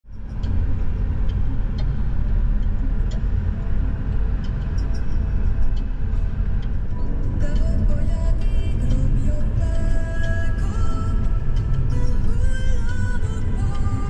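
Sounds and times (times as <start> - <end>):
car engine and tyre rumble: 0.1 - 14.0
faint ticks: 0.1 - 14.0.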